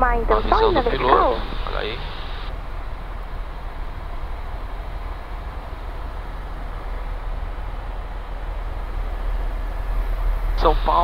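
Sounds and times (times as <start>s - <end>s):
helicopter cabin rumble: 0.0s - 11.0s.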